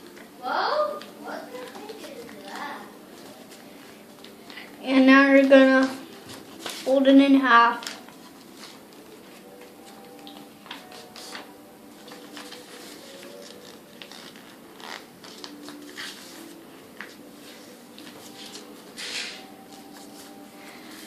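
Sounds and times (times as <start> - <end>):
paper crinkling and rustling: 0.9 - 21.0
paper scraping along crease: 0.9 - 21.0.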